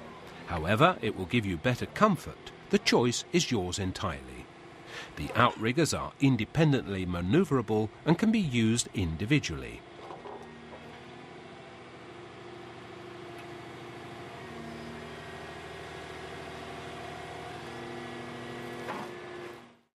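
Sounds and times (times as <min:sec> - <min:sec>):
excavator diesel engine running: 0:00.0 - 0:19.4.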